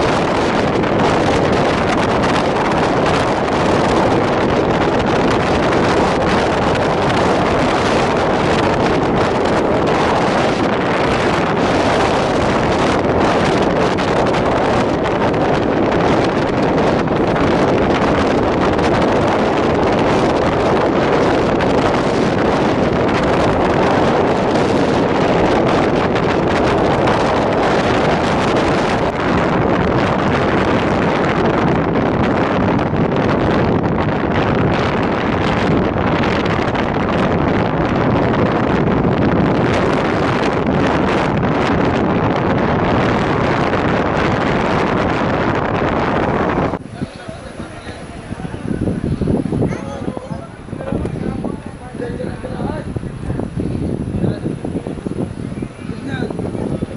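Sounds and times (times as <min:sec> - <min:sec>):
train running noise: 0:00.0 - 0:56.9
wind rushing over microphone: 0:00.0 - 0:56.9.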